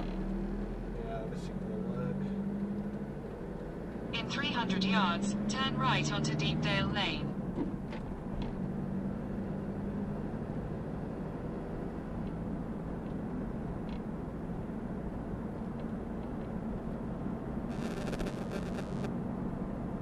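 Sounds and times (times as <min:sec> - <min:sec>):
van engine and road drone: 0:00.0 - 0:20.0.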